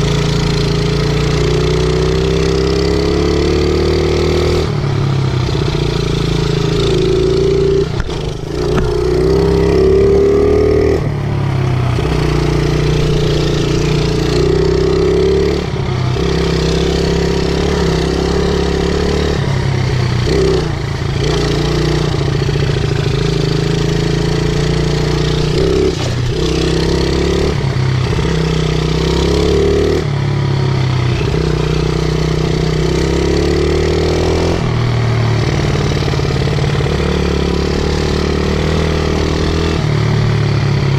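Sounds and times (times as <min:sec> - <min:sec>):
small motorbike engine running: 0:00.0 - 0:40.9.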